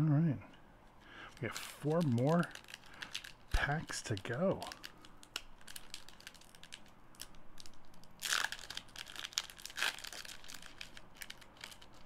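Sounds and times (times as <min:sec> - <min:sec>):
wrapper crackling: 0:01.2 - 0:12.0
wrapper ripping: 0:01.3 - 0:12.0.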